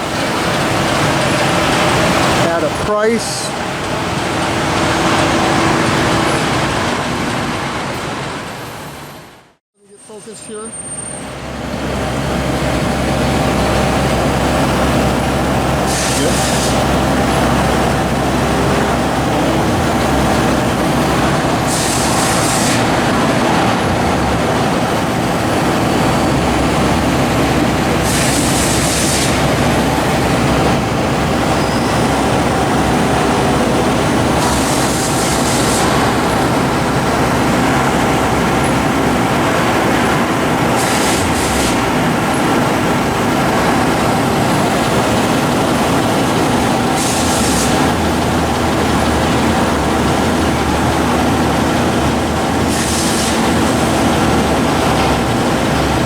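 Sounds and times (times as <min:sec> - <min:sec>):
lathe mechanical drone: 0:00.0 - 0:08.5, 0:11.2 - 0:56.0.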